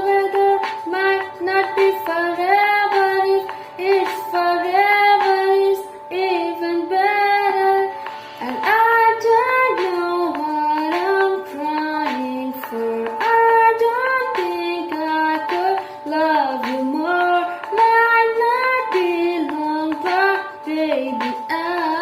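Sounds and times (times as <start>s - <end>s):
light instrumental backing: 0.0s - 22.0s.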